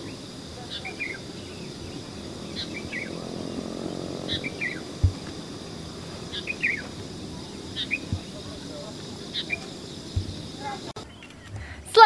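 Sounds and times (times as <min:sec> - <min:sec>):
high insect drone: 0:00.0 - 0:11.0
bird calling with falling chirps: 0:00.0 - 0:11.8
low bump: 0:01.2 - 0:11.0.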